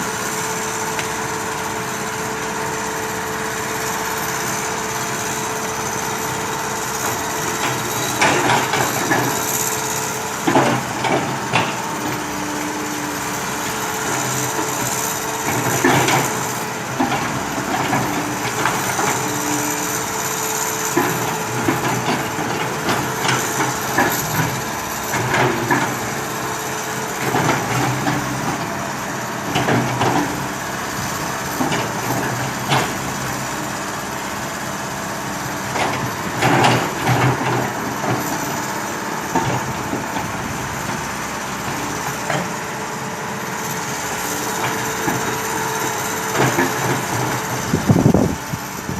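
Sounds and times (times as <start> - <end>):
backhoe engine running: 0.0 - 48.9.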